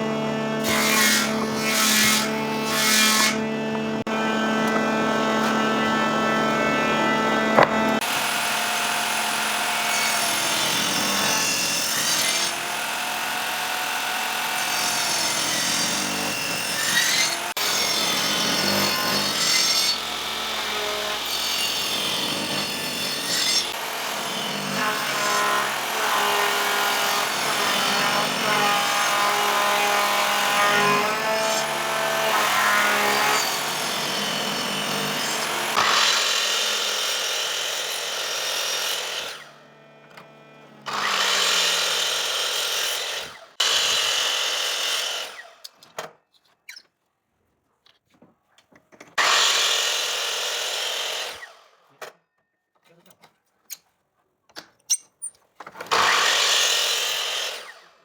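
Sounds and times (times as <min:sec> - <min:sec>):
power tool cutting wood: 0:00.0 - 0:45.9, 0:49.2 - 0:52.2, 0:55.8 - 0:58.0.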